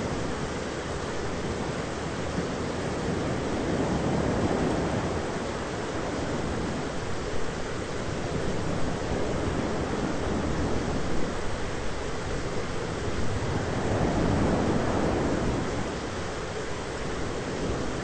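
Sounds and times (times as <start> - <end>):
rushing storm noise: 0.0 - 18.0.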